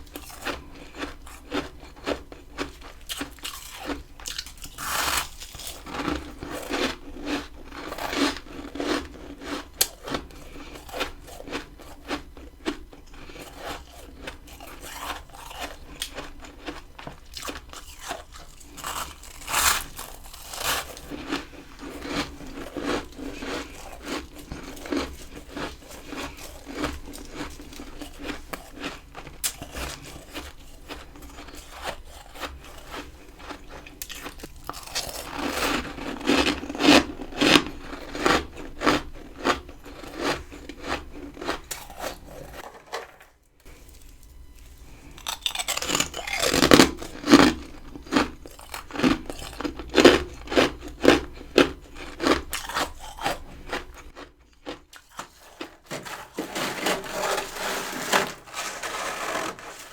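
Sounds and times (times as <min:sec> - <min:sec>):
ice being crunched and chewed: 0:00.0 - 0:43.0, 0:43.7 - 0:59.9.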